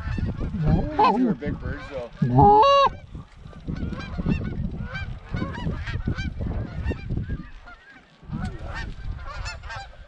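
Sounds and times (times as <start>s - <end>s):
geese honking: 0.0s - 10.0s
wind rumble on microphone: 0.0s - 10.0s.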